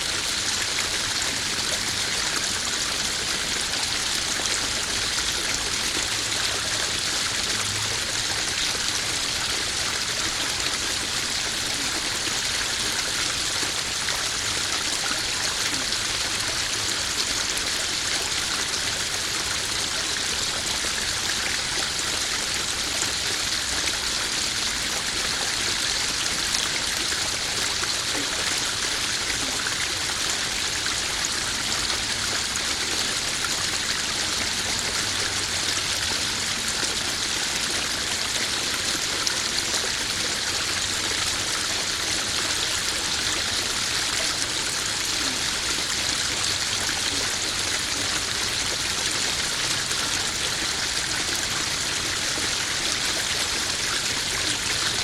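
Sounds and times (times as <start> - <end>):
pond waterfall splashing: 0.0 - 55.0.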